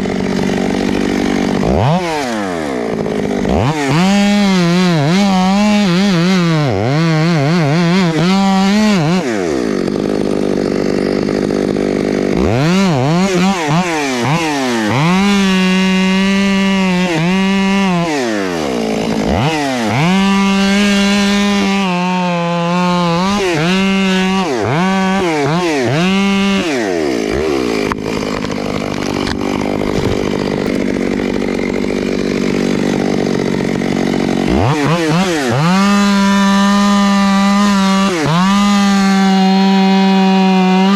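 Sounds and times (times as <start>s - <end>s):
chainsaw cutting timber: 0.0s - 40.9s
chainsaw revving: 0.0s - 40.9s.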